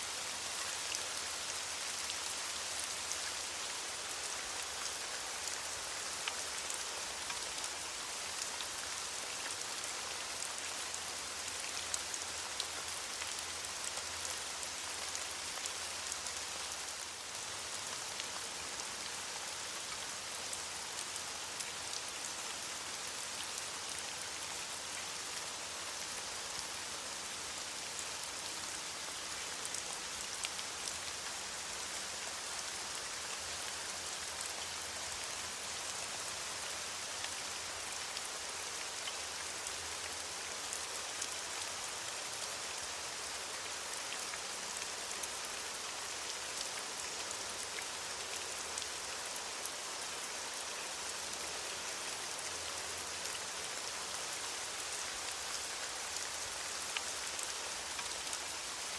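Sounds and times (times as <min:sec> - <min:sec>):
rain falling on leaves: 0:00.0 - 0:58.9.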